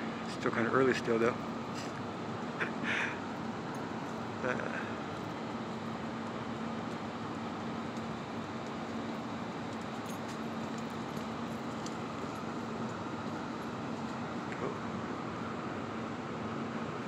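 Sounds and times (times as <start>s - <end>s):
city street traffic: 0.0s - 17.0s
low steady hum: 0.0s - 17.0s.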